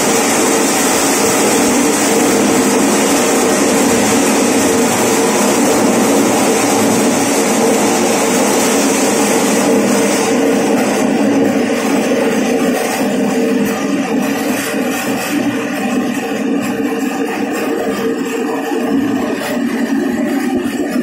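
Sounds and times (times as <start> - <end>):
maize sheller motor running: 0.0 - 21.0.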